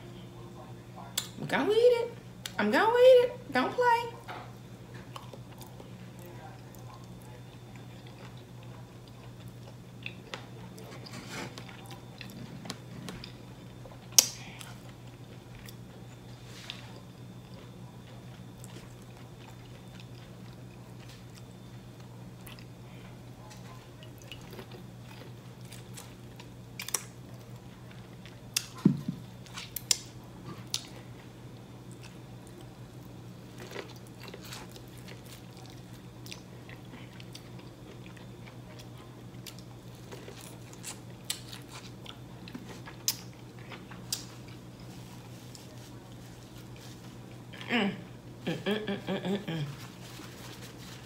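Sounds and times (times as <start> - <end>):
person chewing food: 5.0 - 22.8, 24.0 - 47.6.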